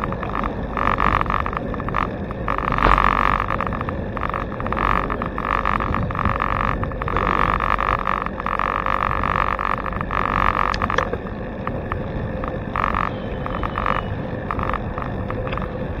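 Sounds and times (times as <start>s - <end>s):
bicycle road rumble: 0.0s - 16.0s
buzzing rattle: 0.0s - 16.0s
wind on microphone: 0.0s - 16.0s.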